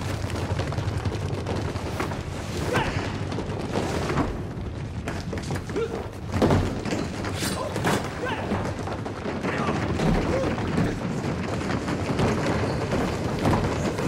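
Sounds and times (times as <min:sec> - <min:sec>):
fight thuds bangs and clashes: 0:00.0 - 0:14.0.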